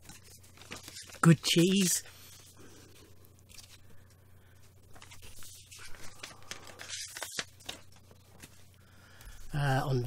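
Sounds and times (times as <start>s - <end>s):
vinyl records and paper sleeves rustling: 0.0s - 10.0s.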